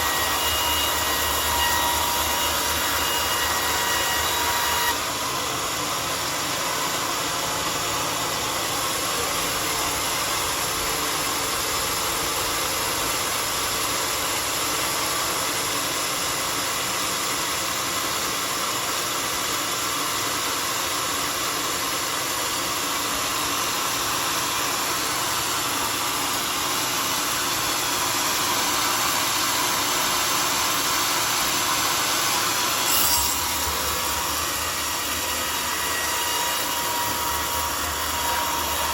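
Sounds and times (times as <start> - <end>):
sawmill sawing log: 0.0 - 38.9.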